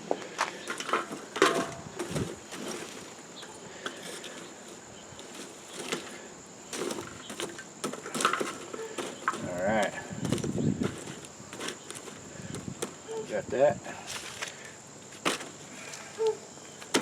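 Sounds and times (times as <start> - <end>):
coals scraping and knocking: 0.0 - 16.1.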